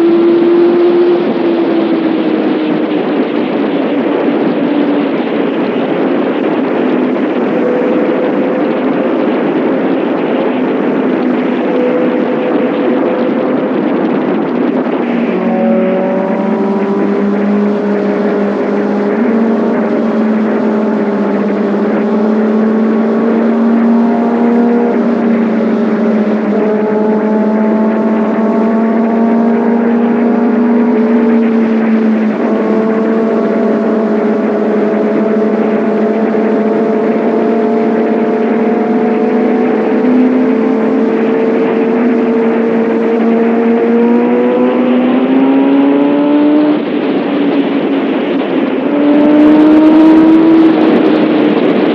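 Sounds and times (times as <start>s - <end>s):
motorcycle engine and exhaust running: 0.0s - 51.9s.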